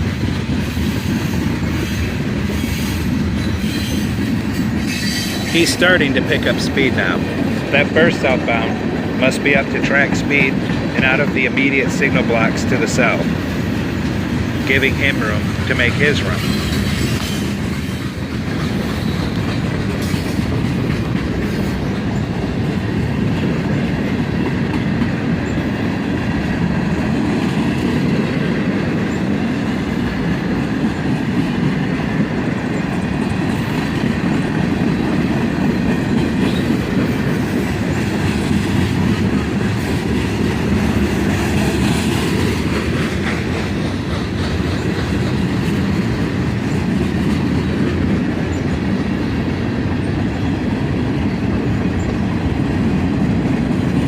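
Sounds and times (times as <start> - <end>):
freight train wheels clattering on rails: 0.0 - 54.0.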